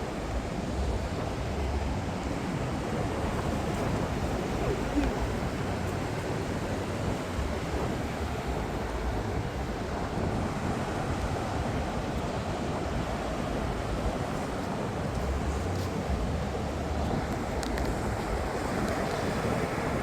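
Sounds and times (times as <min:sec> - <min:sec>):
surf breaking on beach: 0:00.0 - 0:20.0
wind on microphone: 0:00.0 - 0:20.0.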